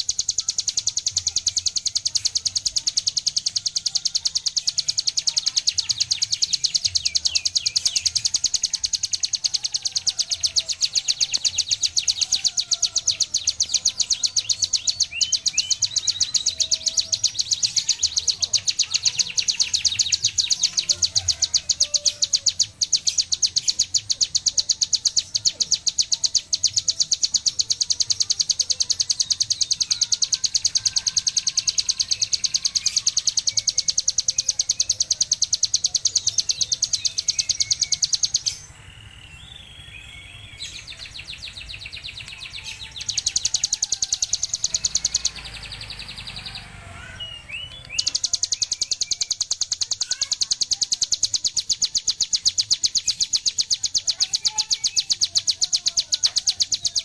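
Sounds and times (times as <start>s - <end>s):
bird rapid trilling song: 0.0s - 57.0s.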